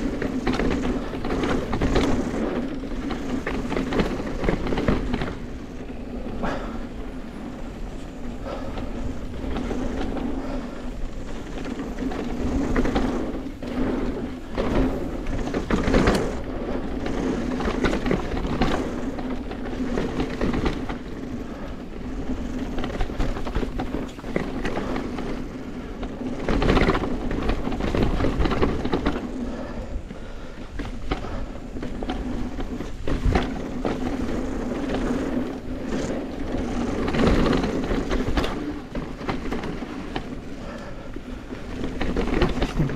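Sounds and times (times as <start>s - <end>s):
bicycle knocks and jolts: 0.0s - 6.8s, 8.0s - 42.9s
bicycle rolling rumble: 0.0s - 42.9s.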